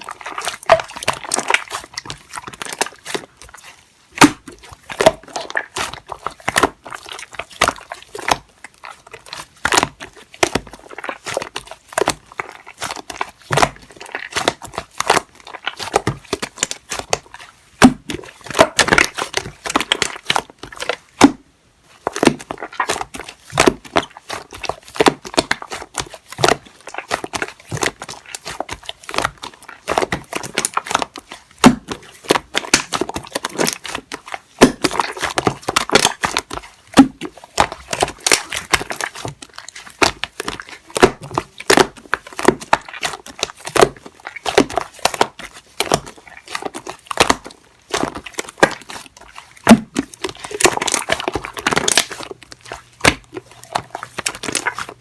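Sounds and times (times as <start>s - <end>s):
crinkling and crackling: 0.0s - 55.0s.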